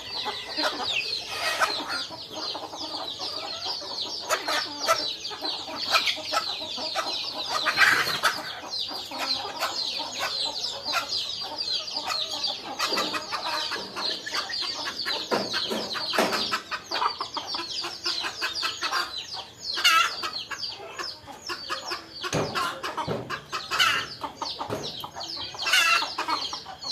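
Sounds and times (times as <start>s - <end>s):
baby chicks cheeping: 0.0s - 26.9s.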